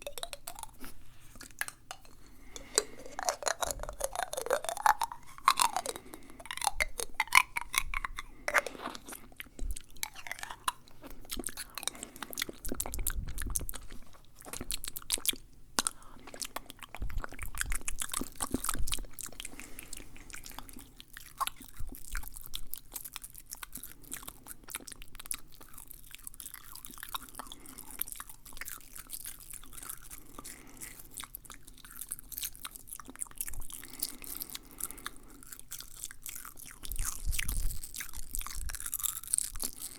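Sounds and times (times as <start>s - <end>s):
wet mouth clicks and smacks: 0.0s - 23.8s, 31.3s - 39.9s.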